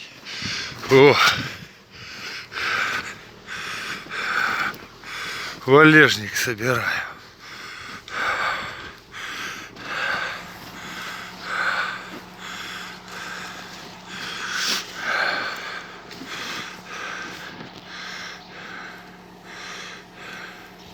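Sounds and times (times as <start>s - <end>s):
man breathing hard: 0.0s - 20.9s.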